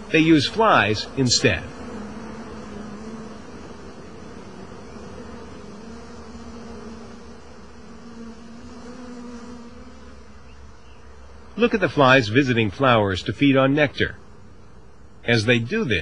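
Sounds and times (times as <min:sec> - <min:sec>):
swarm of flies buzzing: 0:00.0 - 0:16.0.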